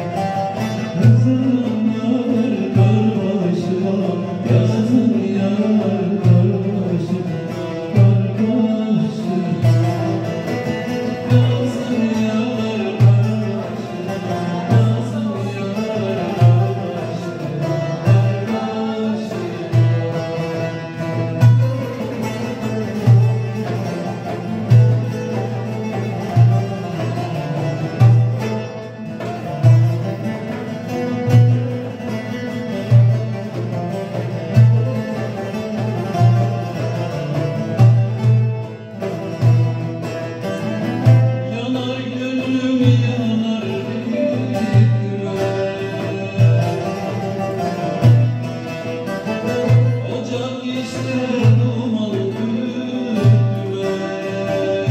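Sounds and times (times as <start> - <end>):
frame drum and darbuka strokes: 0.0 - 54.9
plucked lutes: 0.0 - 54.9.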